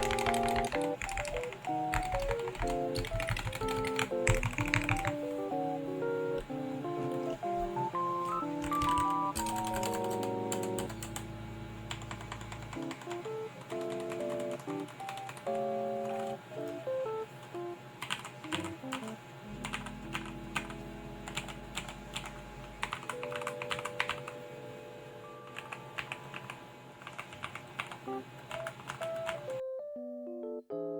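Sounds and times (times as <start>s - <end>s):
mechanical keyboard typing: 0.0s - 5.7s, 6.3s - 11.2s, 11.9s - 17.0s, 18.0s - 24.4s, 25.5s - 29.6s
soft background music: 0.0s - 27.3s, 27.9s - 30.9s.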